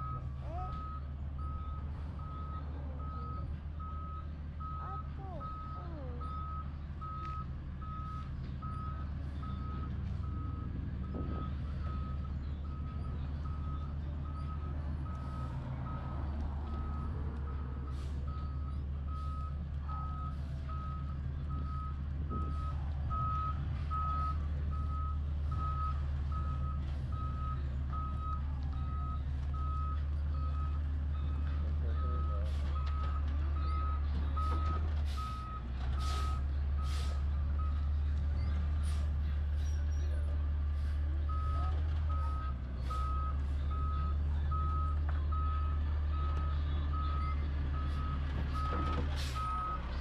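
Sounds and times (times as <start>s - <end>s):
truck backup alarm beeping: 0.0s - 39.1s, 41.2s - 50.0s.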